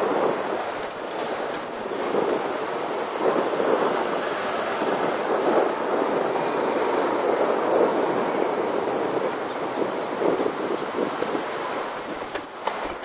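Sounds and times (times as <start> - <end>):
street traffic: 0.0 - 13.0
wind buffeting microphone: 0.0 - 13.0.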